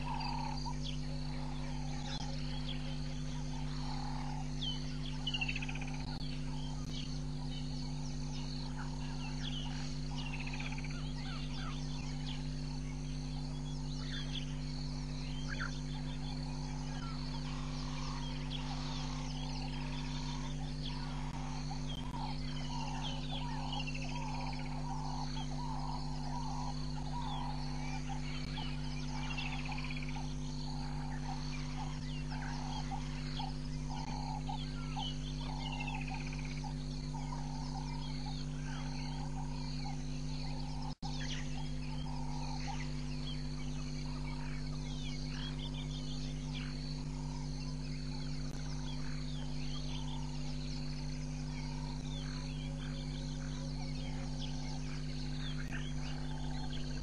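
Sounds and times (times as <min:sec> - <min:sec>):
pulsing frog chorus: 0:00.0 - 0:57.0
steady low hum: 0:00.0 - 0:57.0.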